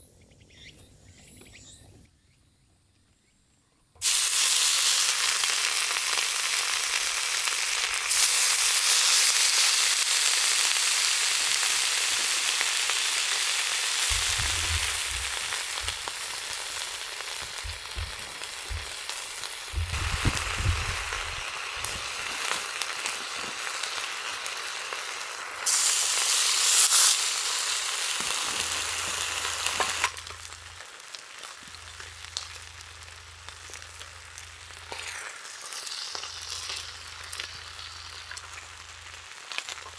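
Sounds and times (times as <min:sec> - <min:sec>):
food sizzling in a frying pan: 0:04.0 - 0:39.9.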